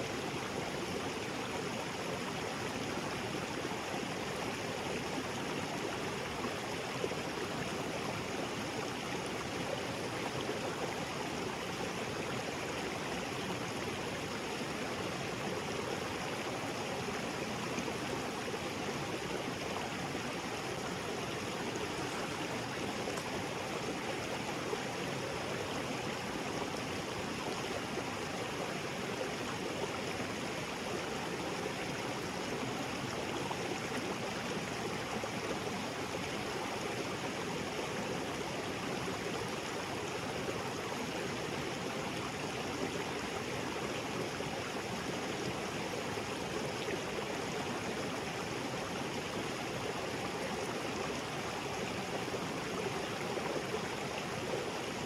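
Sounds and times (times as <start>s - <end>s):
creek water splashing over rocks: 5.3s - 55.0s.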